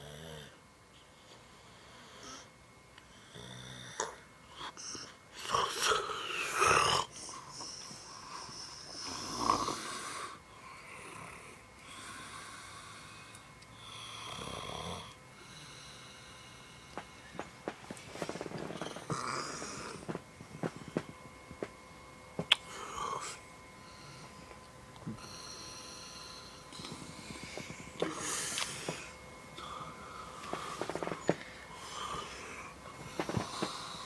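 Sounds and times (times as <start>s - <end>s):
man snoring: 0.0s - 0.6s, 3.1s - 17.0s, 18.2s - 21.1s, 22.6s - 24.3s, 25.1s - 34.0s.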